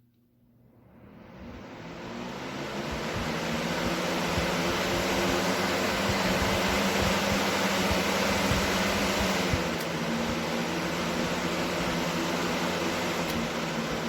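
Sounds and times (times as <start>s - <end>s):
fan motor low hum: 0.0s - 14.0s
box fan air rushing: 0.8s - 14.0s.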